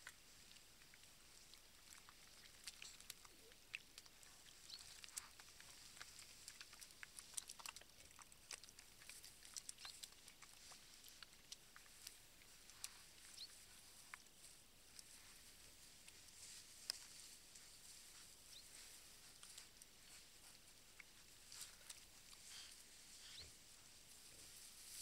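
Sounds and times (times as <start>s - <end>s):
piglets stepping in wet mud: 0.0s - 23.7s.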